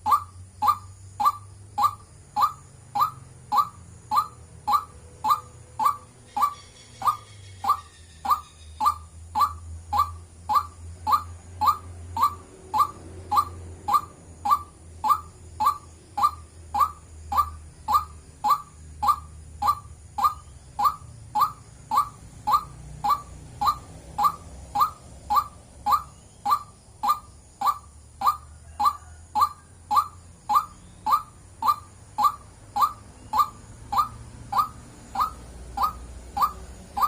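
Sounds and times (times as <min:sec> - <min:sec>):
bird calling monotonous note: 0:00.0 - 0:37.0.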